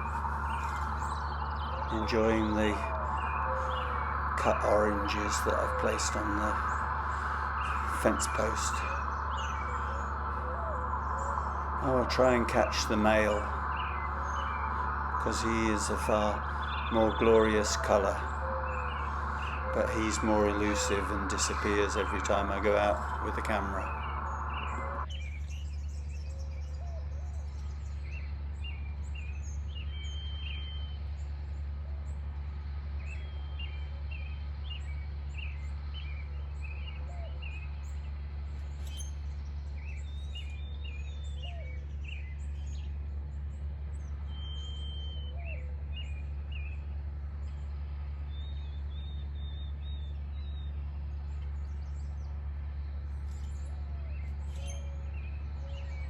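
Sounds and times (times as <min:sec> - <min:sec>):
low rising bird call: 0:00.0 - 0:32.3, 0:38.6 - 0:56.0
small birds chirping: 0:00.0 - 0:56.0
steady low hum: 0:00.0 - 0:56.0.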